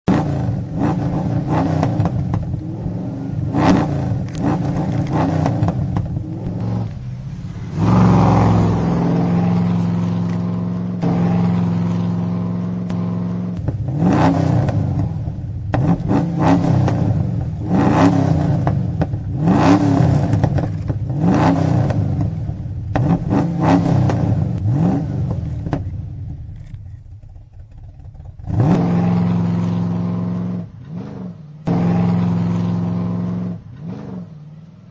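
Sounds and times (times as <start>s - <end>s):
car engine idling: 0.1s - 30.8s
car engine revving: 0.1s - 34.9s.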